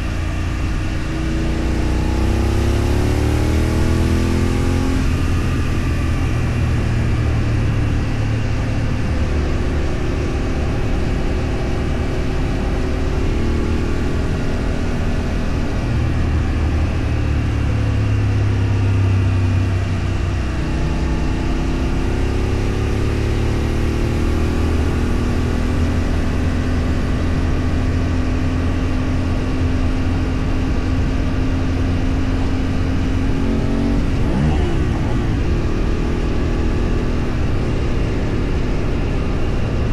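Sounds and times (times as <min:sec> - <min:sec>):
road and wind noise: 0:00.0 - 0:39.9
vehicle engine running: 0:00.0 - 0:39.9.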